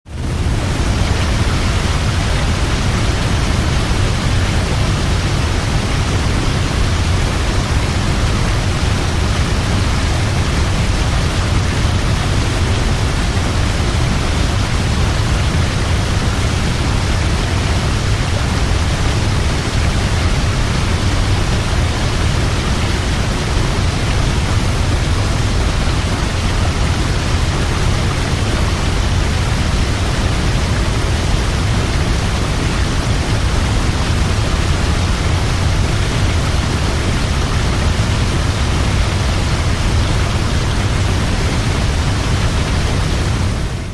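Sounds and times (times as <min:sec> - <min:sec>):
waterfall roar: 0:00.1 - 0:43.9.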